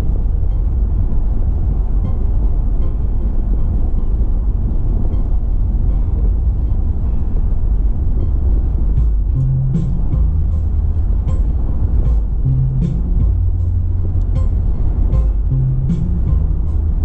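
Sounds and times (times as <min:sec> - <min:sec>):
car driving at speed: 0:00.0 - 0:17.0
low hum: 0:00.0 - 0:17.0.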